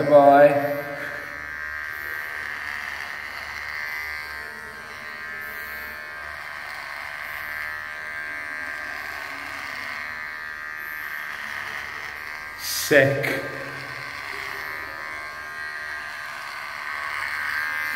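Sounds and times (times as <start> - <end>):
electric hair clippers buzzing: 0.0 - 17.9.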